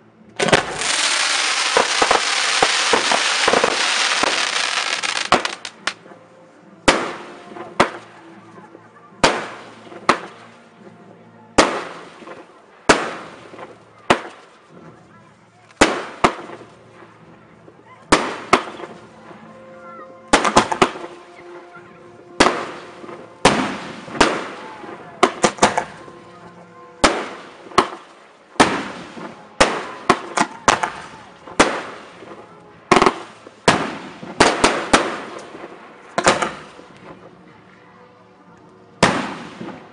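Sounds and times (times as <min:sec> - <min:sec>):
fireworks bursting with sharp bangs: 0:00.4 - 0:06.1, 0:06.8 - 0:08.2, 0:09.2 - 0:10.9, 0:11.6 - 0:15.0, 0:15.6 - 0:17.2, 0:18.1 - 0:19.3, 0:20.3 - 0:21.7, 0:22.3 - 0:37.3, 0:39.0 - 0:39.9.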